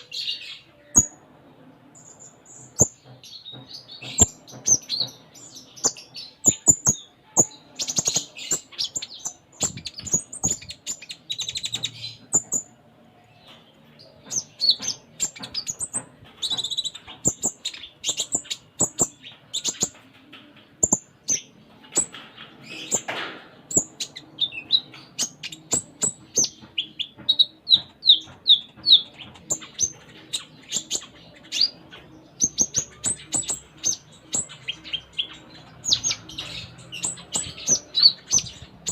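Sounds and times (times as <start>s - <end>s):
sunbird singing chirps and trills: 0.0s - 38.9s.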